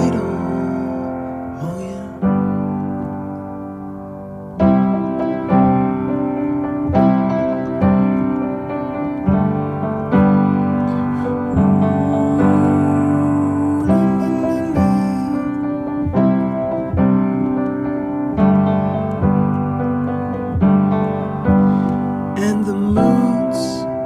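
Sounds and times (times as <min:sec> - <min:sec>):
piano chords ringing: 0:00.0 - 0:24.0.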